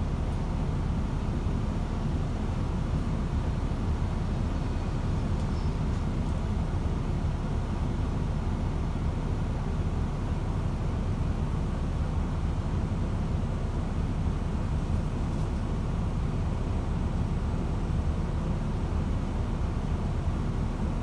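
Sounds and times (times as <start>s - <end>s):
bus interior rumble: 0.0s - 21.0s.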